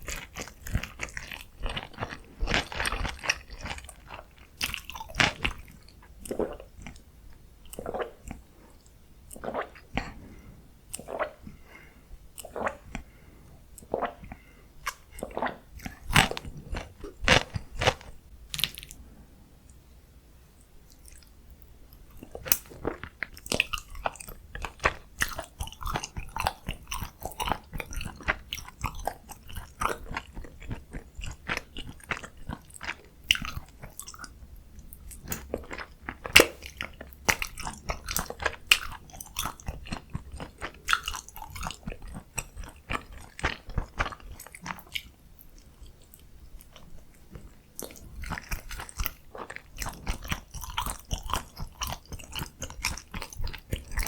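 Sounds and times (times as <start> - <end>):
person chewing food: 0.0 - 19.0, 20.8 - 54.0.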